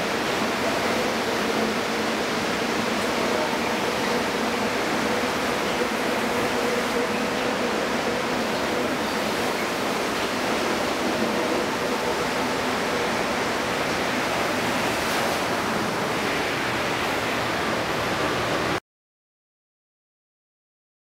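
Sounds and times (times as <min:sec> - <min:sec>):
metro train rushing past: 0:00.0 - 0:18.8.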